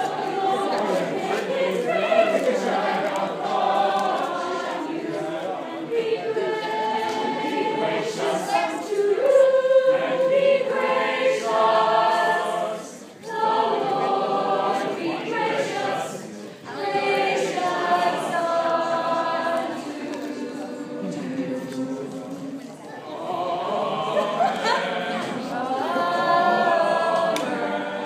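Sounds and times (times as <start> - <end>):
choir singing a cappella: 0.0 - 28.0.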